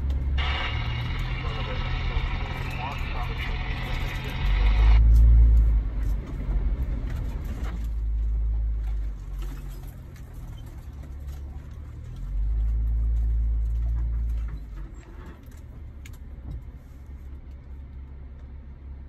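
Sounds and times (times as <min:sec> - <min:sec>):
vehicle engine rumble: 0:00.0 - 0:19.0
vehicle ticks and rattles: 0:00.0 - 0:19.0.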